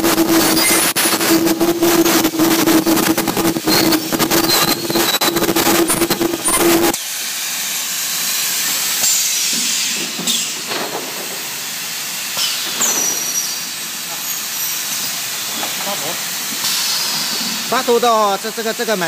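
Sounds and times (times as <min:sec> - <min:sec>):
welding machine rattling buzz: 0:00.0 - 0:18.3
steady hiss: 0:00.0 - 0:19.0.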